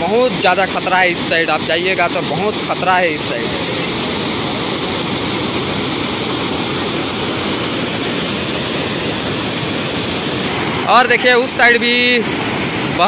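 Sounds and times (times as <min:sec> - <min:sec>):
water rushing over waterfall: 0:00.0 - 0:13.0.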